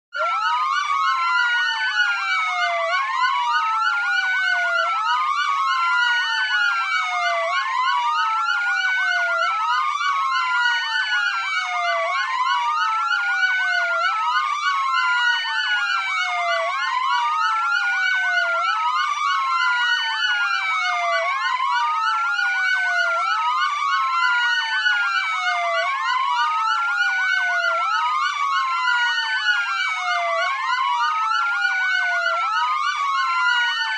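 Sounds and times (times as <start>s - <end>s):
police sirens wailing: 0.1s - 33.9s.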